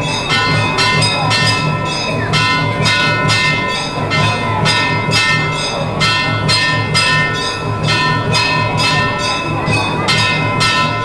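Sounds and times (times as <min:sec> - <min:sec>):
temple bells ringing: 0:00.0 - 0:11.0.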